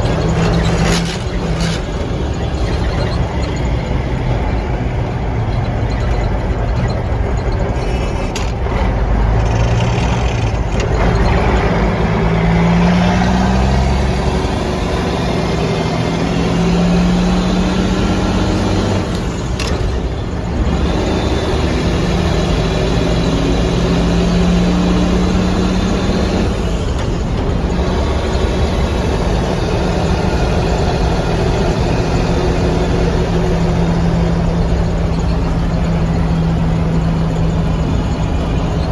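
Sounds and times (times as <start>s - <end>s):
truck diesel engine accelerating: 0.0s - 38.9s.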